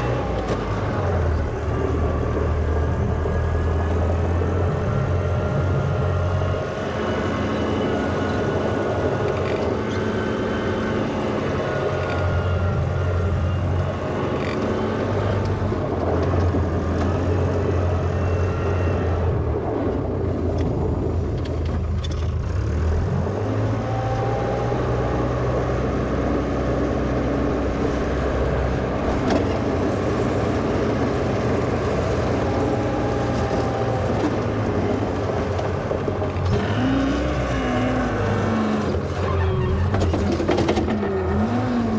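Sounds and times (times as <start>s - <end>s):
wheel loader engine running: 0.0s - 41.9s.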